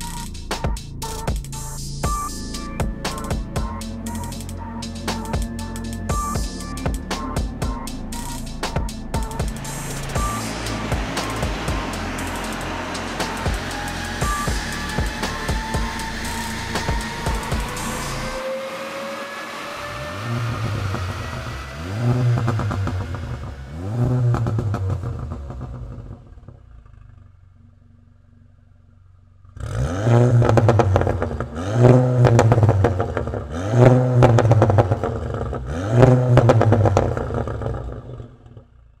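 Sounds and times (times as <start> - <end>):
car engine revving and idling: 0.0 - 39.0
exhaust crackling: 0.0 - 39.0.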